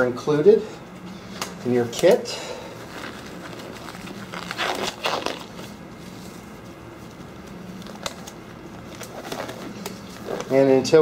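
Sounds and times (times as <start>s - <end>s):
faint steady hum: 0.0s - 11.0s
gloves crinkling and rustling: 1.7s - 11.0s.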